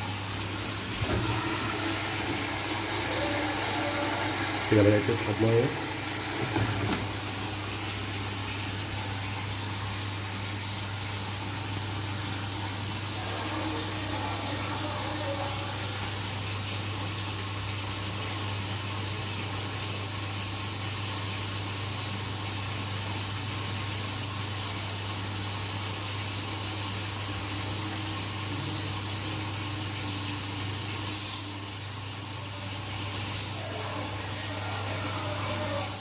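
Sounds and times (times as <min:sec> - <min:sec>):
water rushing into washing machine: 0:00.0 - 0:36.0.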